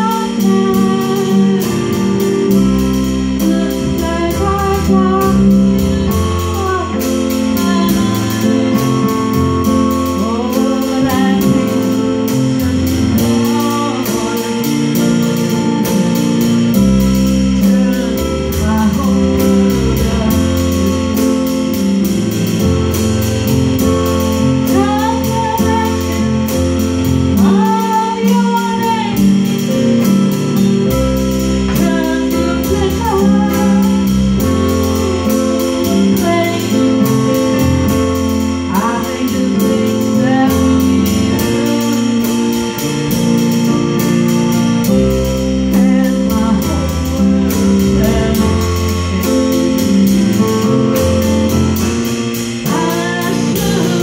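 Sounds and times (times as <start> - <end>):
woman singing: 0.0 - 23.1, 24.3 - 30.7, 31.6 - 44.1, 45.2 - 54.0
drum kit with cymbal strokes: 0.0 - 54.0
electronic keyboards playing chords: 0.0 - 54.0.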